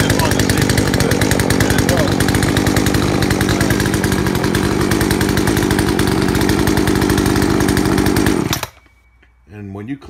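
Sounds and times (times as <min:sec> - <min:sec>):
chainsaw engine running: 0:00.0 - 0:08.8.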